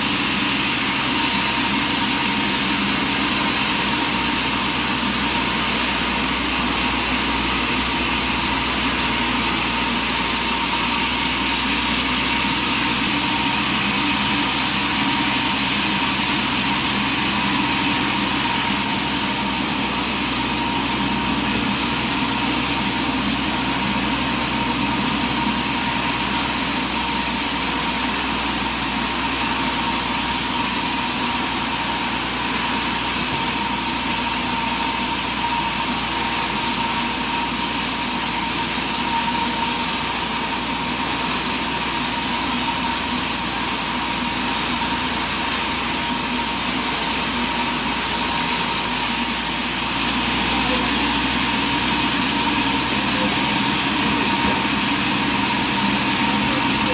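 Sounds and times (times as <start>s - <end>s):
sawmill engine drone and whine: 0.0s - 56.9s.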